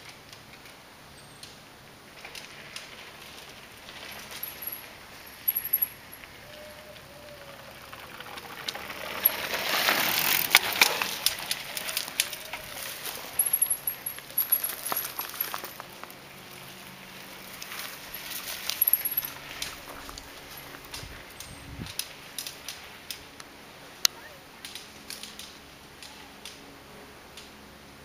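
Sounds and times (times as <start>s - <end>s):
bike clicks and rattles: 0.0s - 23.6s, 24.6s - 27.6s
mountain bike tyres passing: 0.0s - 28.0s.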